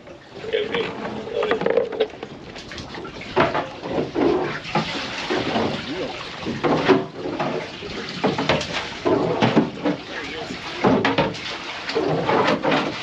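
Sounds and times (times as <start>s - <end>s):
water splashing and rushing: 0.0s - 13.0s.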